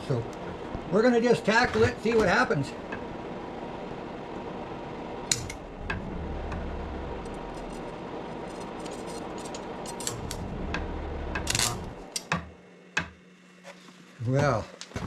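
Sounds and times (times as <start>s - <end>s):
machine hum: 0.0s - 13.6s.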